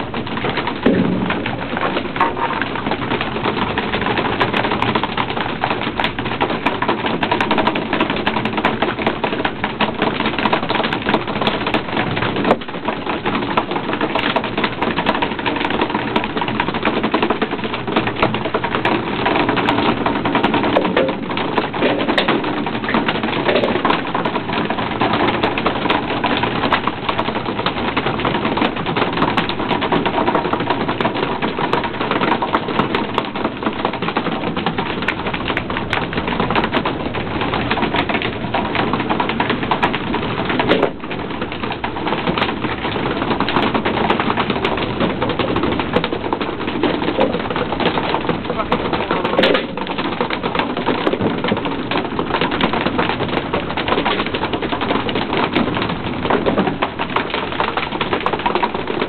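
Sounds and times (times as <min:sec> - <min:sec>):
dense rapid clattering: 0:00.0 - 0:59.0.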